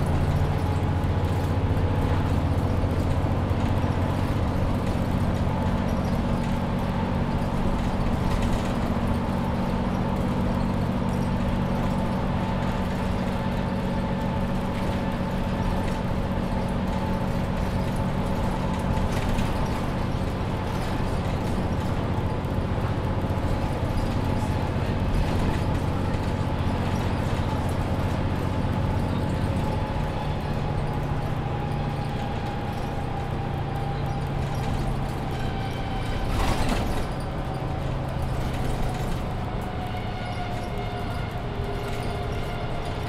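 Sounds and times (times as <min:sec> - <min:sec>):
bus engine drone with whine: 0:00.0 - 0:43.0.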